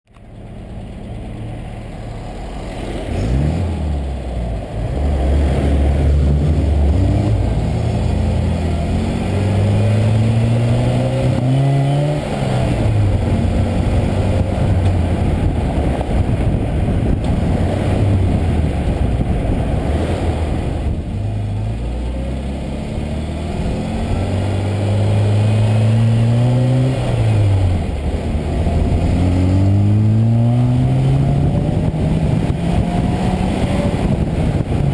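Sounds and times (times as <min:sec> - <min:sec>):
road noise: 0:00.1 - 0:34.9
car engine revving through gears: 0:02.3 - 0:34.9.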